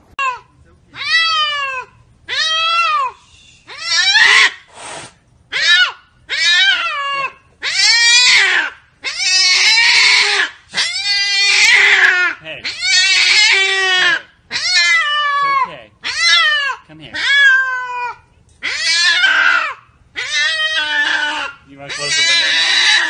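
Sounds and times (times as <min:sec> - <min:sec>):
cat meowing loudly: 0:00.2 - 0:04.6, 0:05.5 - 0:23.0.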